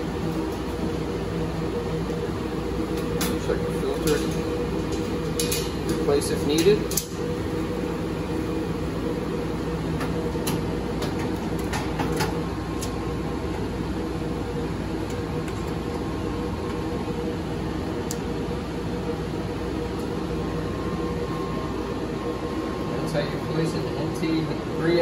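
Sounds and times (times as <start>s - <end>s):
cooling fans running: 0.0s - 25.0s.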